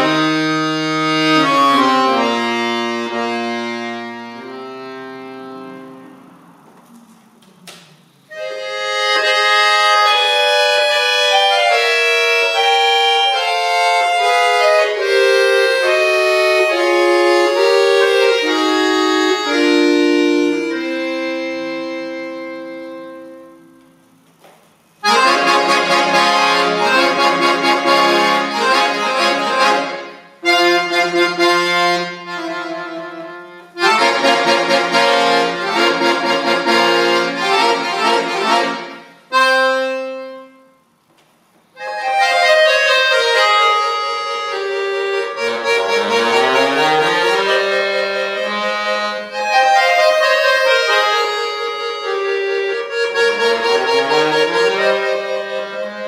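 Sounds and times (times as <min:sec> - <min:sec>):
accordion playing: 0:00.0 - 0:41.1, 0:41.7 - 0:56.0.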